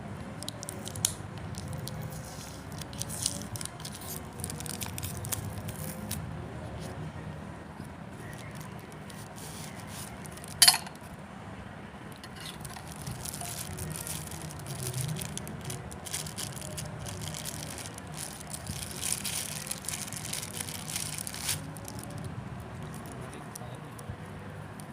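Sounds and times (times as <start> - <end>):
rustling packaging: 0.4 - 6.2, 8.2 - 11.1, 12.2 - 23.6.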